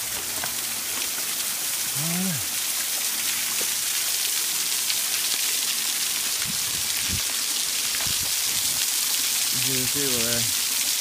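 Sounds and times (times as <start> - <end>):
waterfall splashing: 0.0 - 11.0.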